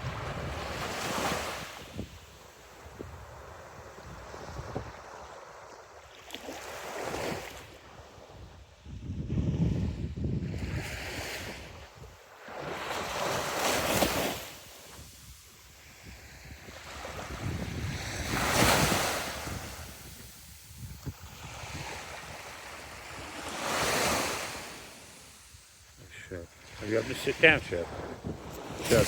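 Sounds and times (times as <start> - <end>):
wind buffeting microphone: 0.0 - 5.3, 8.2 - 24.6, 27.0 - 29.0
sea waves breaking on shore: 0.0 - 9.5, 10.4 - 29.0.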